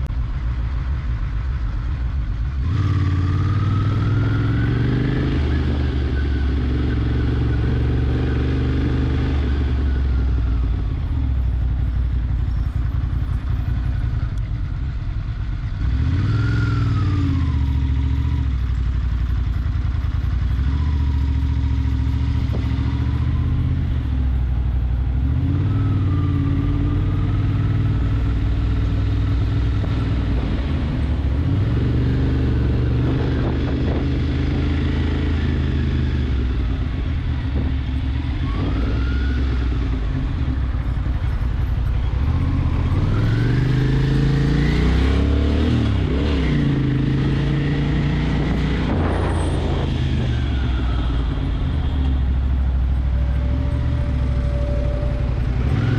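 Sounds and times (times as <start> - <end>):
motorcycle engine revving: 0.8 - 55.9.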